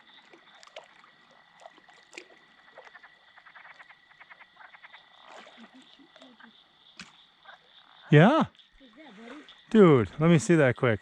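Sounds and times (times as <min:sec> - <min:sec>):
frogs calling with clicks: 0:00.0 - 0:11.0.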